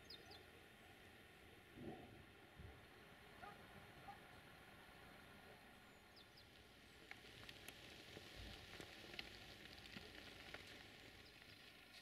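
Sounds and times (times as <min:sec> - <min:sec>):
faint ticks and crackles: 0:00.0 - 0:12.0.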